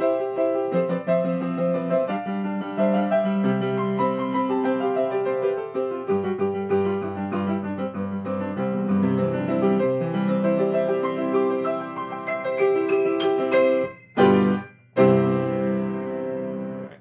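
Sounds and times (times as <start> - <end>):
grand piano improvisation: 0.0 - 17.0.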